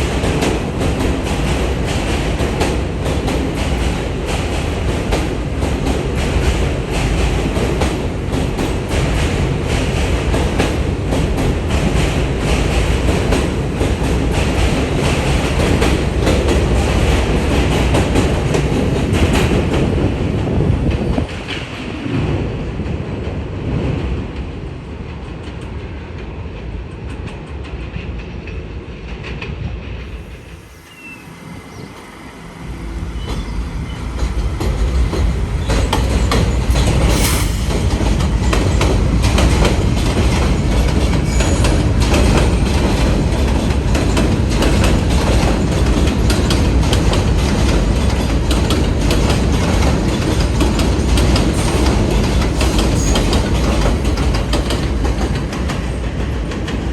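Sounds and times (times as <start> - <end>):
subway train passing: 0.0 - 56.9.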